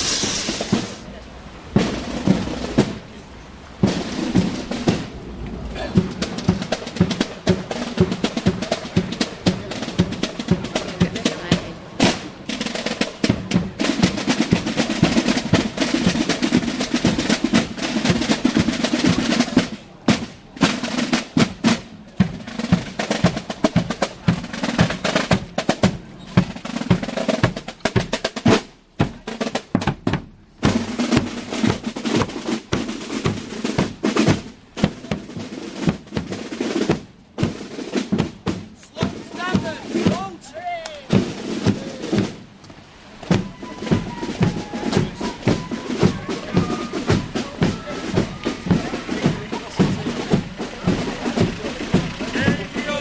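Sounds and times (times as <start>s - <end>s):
snare drums playing: 0.0s - 3.1s, 3.8s - 5.2s, 5.8s - 42.6s, 43.2s - 53.0s.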